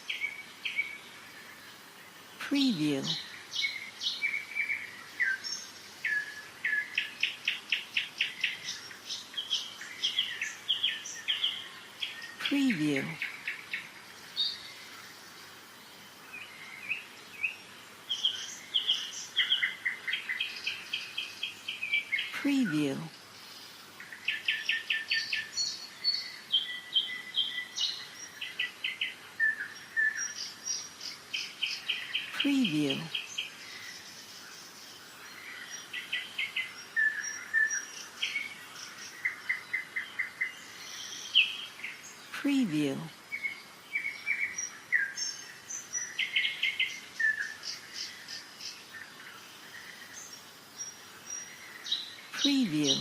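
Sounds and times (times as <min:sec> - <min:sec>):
songbirds chirping and trilling: 0:00.0 - 0:53.0.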